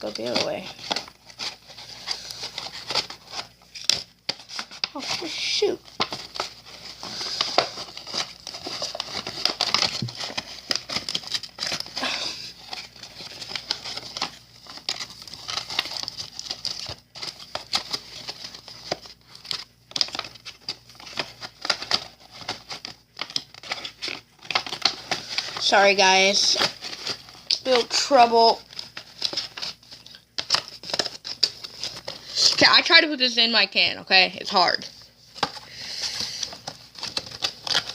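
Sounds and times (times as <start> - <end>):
plastic and cardboard crinkling: 0.0 - 37.9.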